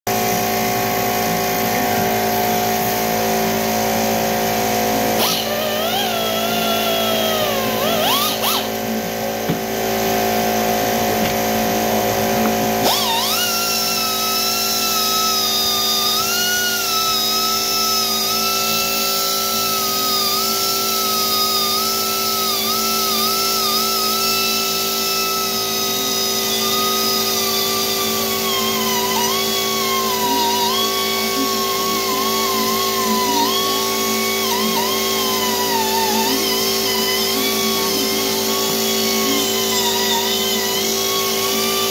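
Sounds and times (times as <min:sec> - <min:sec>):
air die grinder whining: 0:00.1 - 0:41.9.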